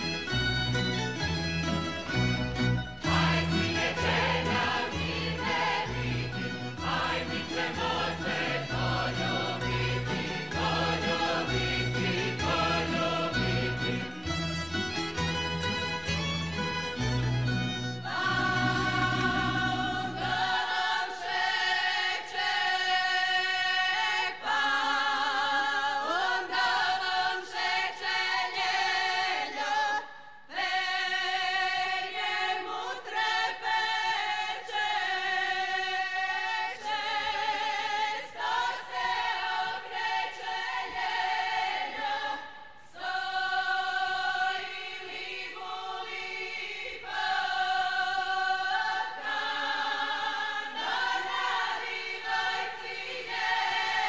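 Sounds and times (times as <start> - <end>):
women's choir singing unaccompanied: 3.0 - 14.1, 18.0 - 54.0.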